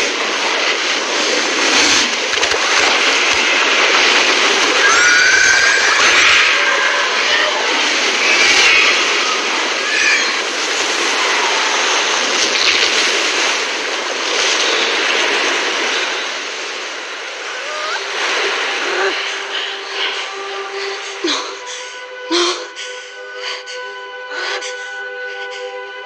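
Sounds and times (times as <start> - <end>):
rushing flood water crashing: 0.0 - 23.0.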